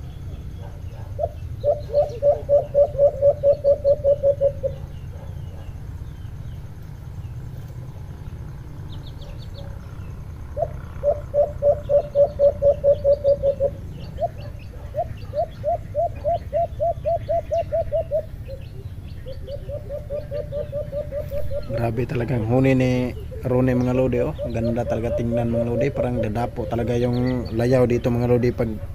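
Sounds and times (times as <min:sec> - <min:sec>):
dove cooing in rapid runs: 0:00.0 - 0:06.0, 0:09.2 - 0:28.9
small birds twittering: 0:00.0 - 0:28.9.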